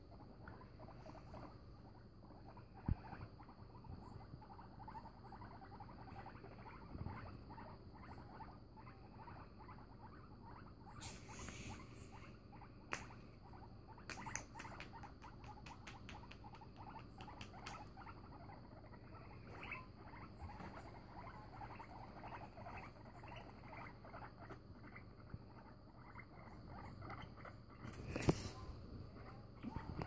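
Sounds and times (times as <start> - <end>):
guinea pigs clicking and chirping: 0.0 - 30.0.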